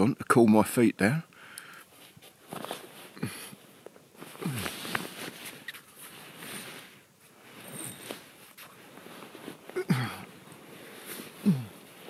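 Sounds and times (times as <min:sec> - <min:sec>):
clothing and gear rustling: 0:01.8 - 0:12.0.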